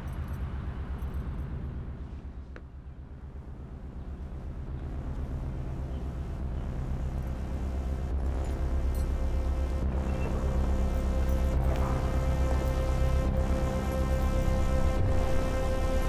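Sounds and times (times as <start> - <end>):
suspense film score drone: 0.0 - 16.0.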